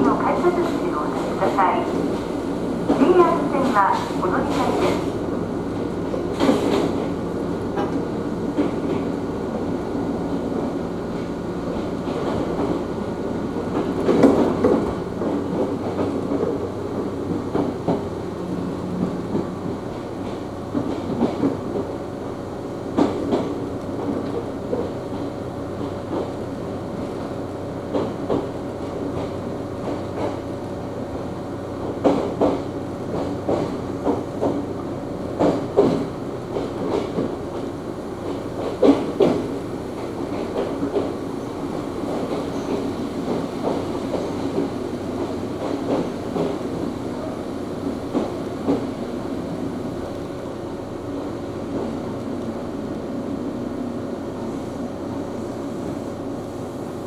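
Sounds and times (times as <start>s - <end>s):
train rumble with low hum: 0.0s - 57.0s.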